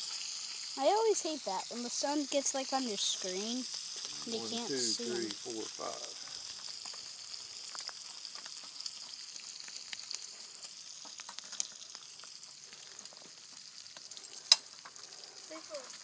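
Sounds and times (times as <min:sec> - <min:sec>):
bacon sizzling in a pan: 0:00.0 - 0:16.0.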